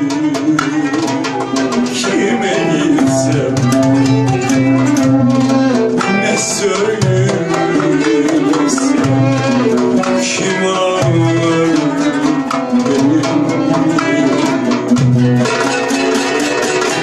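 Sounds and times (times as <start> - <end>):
frame drum beat: 0.0 - 17.0
oud and kanun plucking: 0.0 - 17.0
violin: 0.0 - 17.0.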